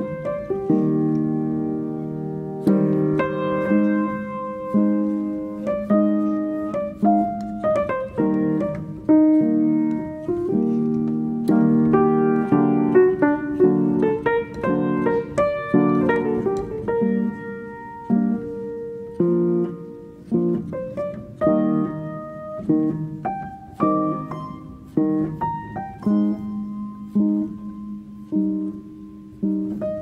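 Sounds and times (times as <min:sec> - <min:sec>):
piano notes and chords: 0:00.0 - 0:30.0.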